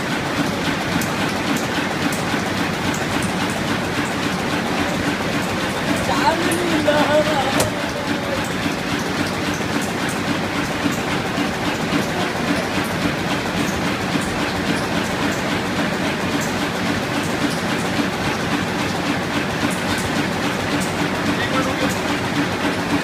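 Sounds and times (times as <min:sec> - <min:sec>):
fast mechanical clatter of stacker: 0:00.0 - 0:23.0.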